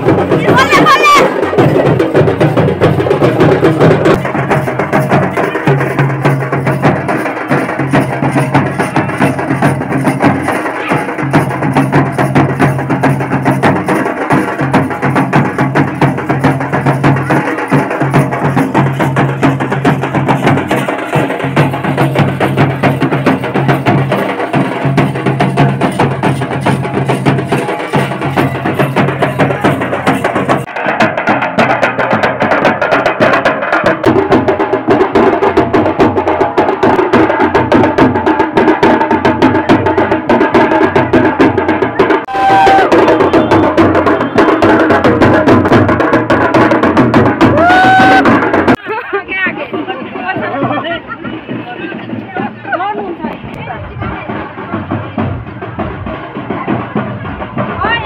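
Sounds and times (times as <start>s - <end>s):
barrel drums beating fast: 0.0s - 58.0s.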